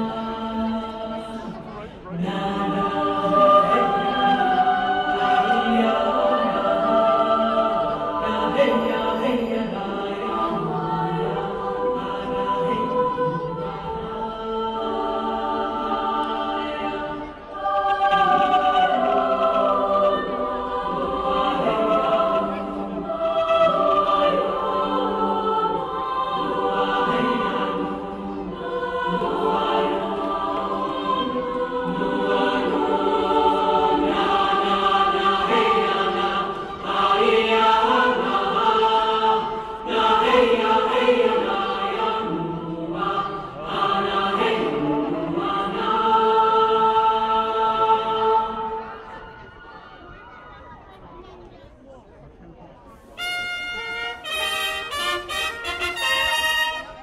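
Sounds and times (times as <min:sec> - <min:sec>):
choir singing held chords: 0:00.0 - 0:50.1, 0:53.2 - 0:57.0.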